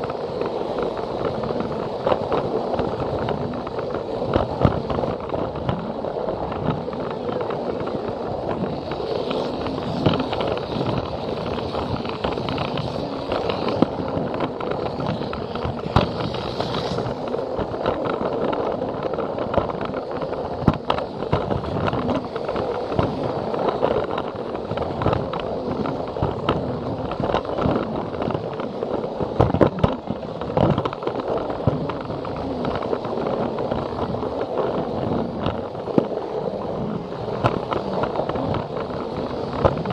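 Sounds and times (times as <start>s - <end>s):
sharp clicks of toy train: 0.0s - 39.9s.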